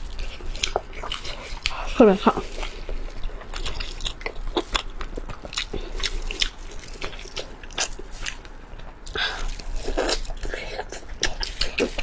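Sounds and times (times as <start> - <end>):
person chewing and biting: 0.0 - 12.0.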